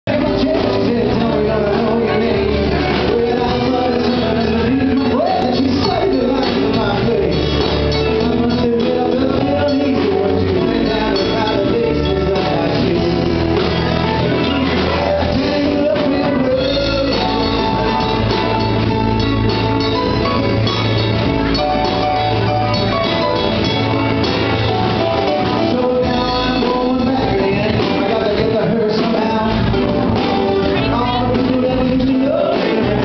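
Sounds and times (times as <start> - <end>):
acoustic guitar: 0.0 - 33.0
drum kit: 0.0 - 33.0
electric guitar: 0.1 - 33.0
person singing: 0.1 - 33.0.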